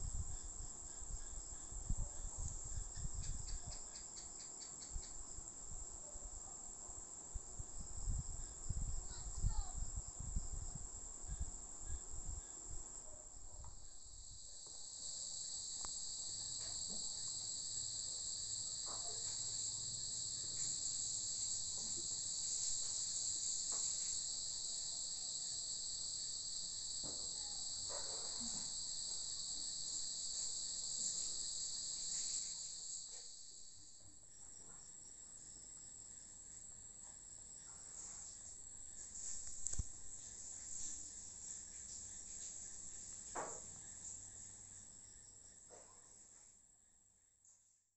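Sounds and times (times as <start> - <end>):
crickets trilling: 0.0 - 46.4
lower insect trill: 0.0 - 47.8.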